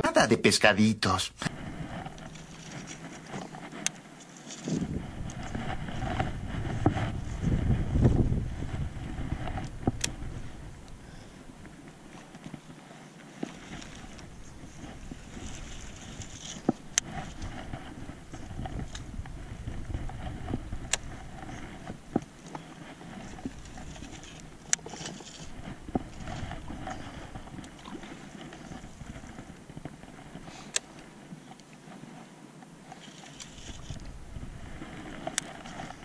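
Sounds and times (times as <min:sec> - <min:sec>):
low steady rumble: 0:00.0 - 0:12.7, 0:13.5 - 0:31.7, 0:32.8 - 0:36.0
wind: 0:00.0 - 0:36.0
water lapping against boat: 0:01.5 - 0:36.0.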